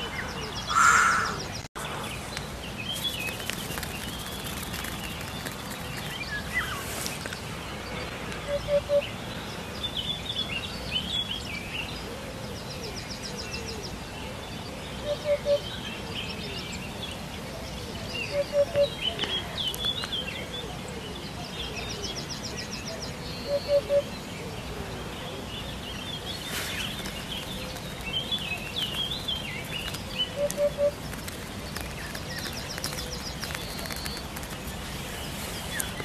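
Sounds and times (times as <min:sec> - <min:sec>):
small birds chirping faintly: 0:00.0 - 0:36.0.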